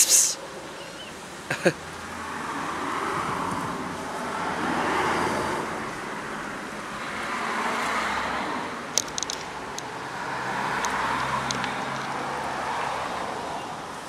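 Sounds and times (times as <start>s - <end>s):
cars passing by: 0.0s - 14.0s.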